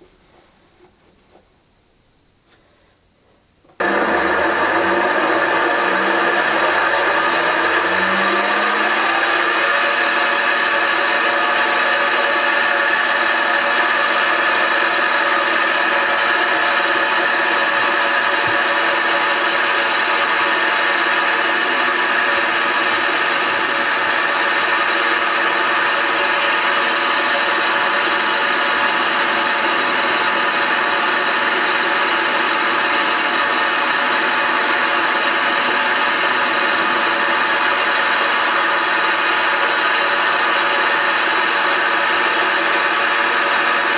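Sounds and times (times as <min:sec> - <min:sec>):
lathe motor whine: 0:03.8 - 0:43.9.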